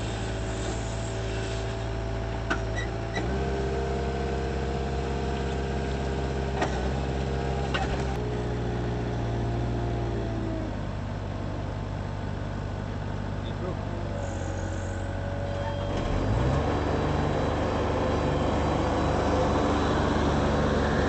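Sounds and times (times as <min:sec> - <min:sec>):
forklift engine running: 0:00.0 - 0:21.0.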